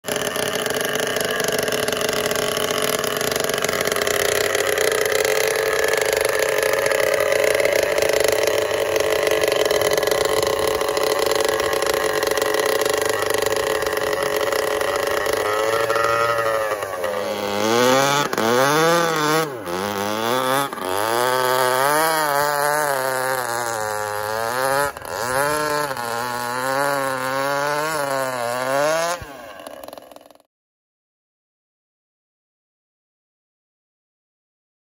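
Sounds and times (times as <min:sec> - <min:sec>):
two-stroke engine revving: 0:00.0 - 0:30.5.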